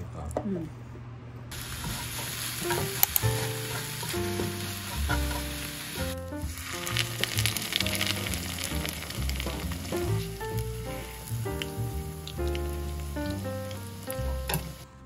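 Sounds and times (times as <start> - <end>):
cutlet deep-frying in bubbling oil: 1.5 - 14.8
meat and mushrooms sizzling in pan: 1.5 - 14.8.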